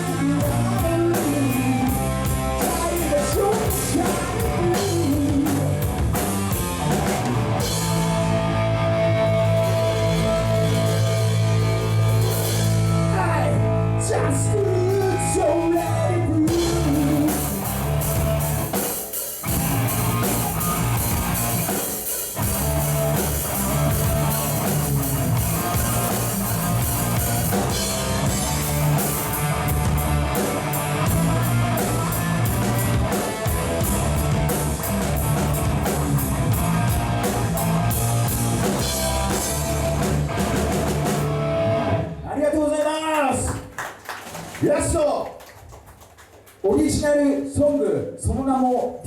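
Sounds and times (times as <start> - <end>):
rock music with guitar and drums: 0.0 - 42.2.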